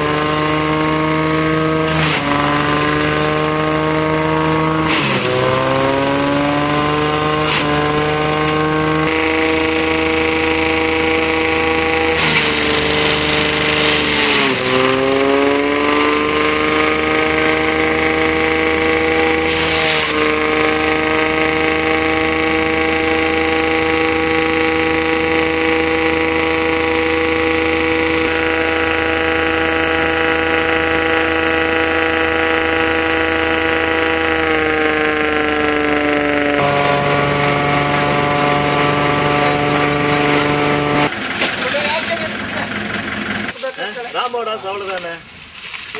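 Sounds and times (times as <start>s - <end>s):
shredder whine: 0.0s - 43.6s
rough shredding noise: 0.0s - 45.9s
tractor engine: 0.0s - 45.9s.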